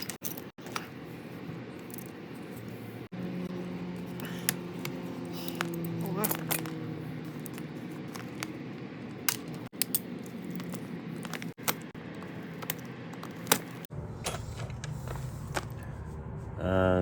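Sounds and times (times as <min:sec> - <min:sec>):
small metal parts clinking: 0:00.0 - 0:13.9.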